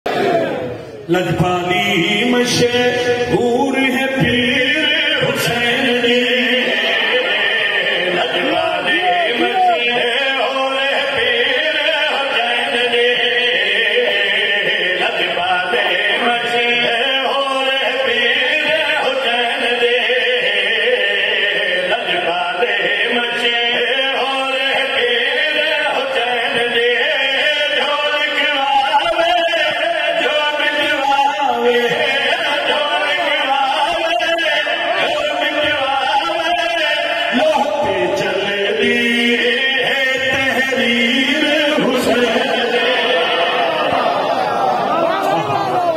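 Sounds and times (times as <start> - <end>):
men chanting into microphones: 0.1 - 45.9.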